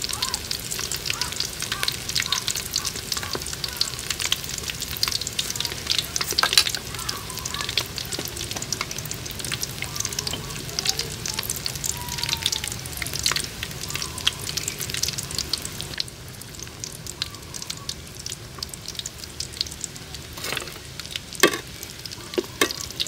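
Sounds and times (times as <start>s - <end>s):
food deep-frying in hot oil: 0.0s - 23.0s.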